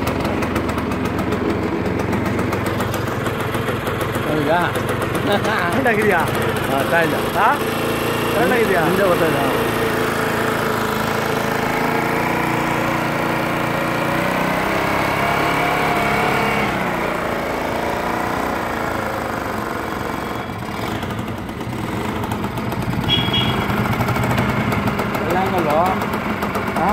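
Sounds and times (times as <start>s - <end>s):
scooter engine running hard: 0.0s - 26.9s.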